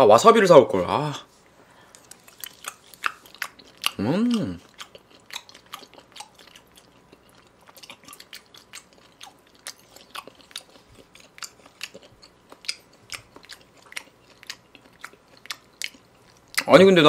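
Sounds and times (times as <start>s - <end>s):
mouth chewing clicks and smacks: 1.9s - 16.8s.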